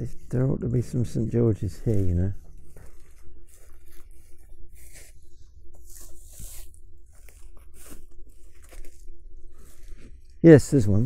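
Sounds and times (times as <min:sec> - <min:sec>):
footsteps through undergrowth: 0:00.0 - 0:11.0.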